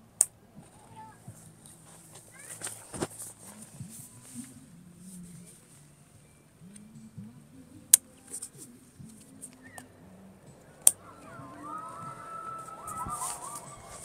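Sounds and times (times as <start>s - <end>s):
faint low voices: 0.0s - 14.0s.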